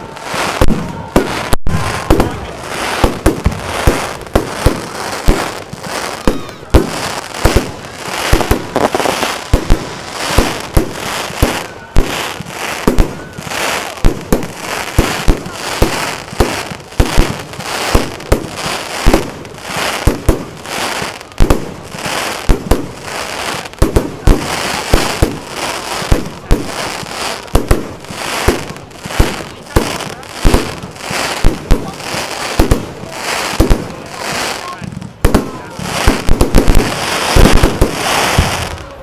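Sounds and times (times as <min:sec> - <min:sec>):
fireworks bangs: 0:00.0 - 0:39.0
fireworks crackle: 0:00.0 - 0:39.0.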